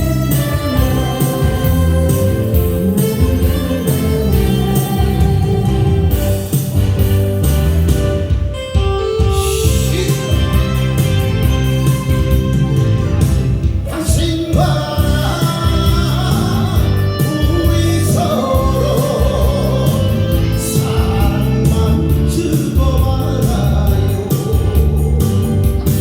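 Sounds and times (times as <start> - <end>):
person singing pop song: 0.0 - 7.7, 8.4 - 26.0
instrumental accompaniment with beat: 0.0 - 26.0.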